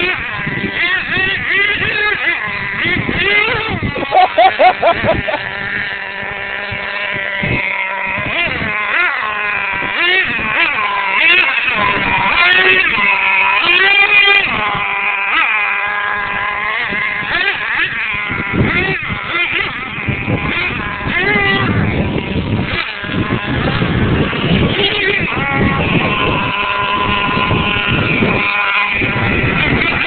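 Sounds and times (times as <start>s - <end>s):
toy truck motor revving: 0.0s - 30.0s.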